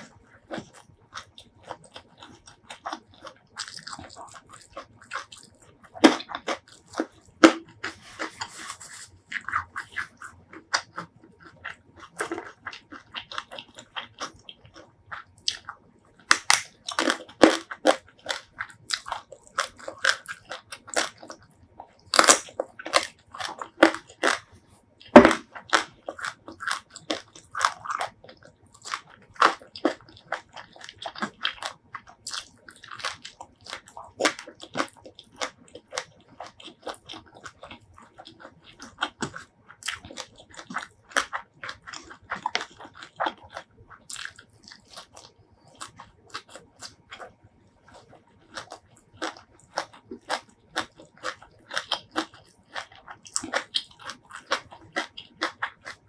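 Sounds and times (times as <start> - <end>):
close chewing and crunching: 0.0 - 56.0.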